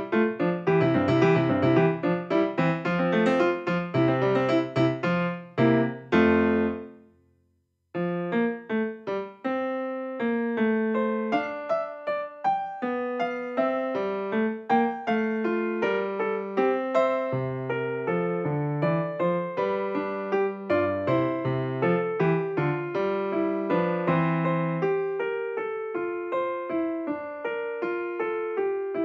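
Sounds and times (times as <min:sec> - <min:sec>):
piano music: 0:00.0 - 0:07.1, 0:08.0 - 0:29.0.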